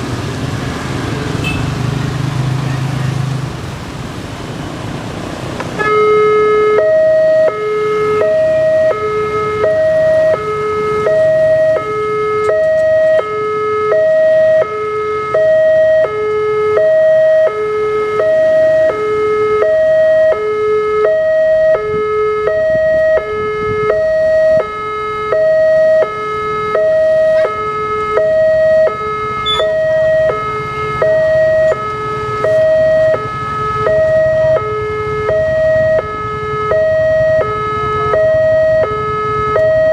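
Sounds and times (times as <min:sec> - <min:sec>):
two-tone crossing alarm: 0:05.8 - 0:39.9.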